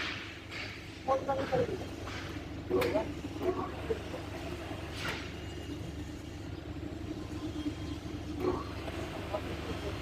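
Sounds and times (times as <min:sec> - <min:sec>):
low mechanical drone: 0:00.0 - 0:10.0.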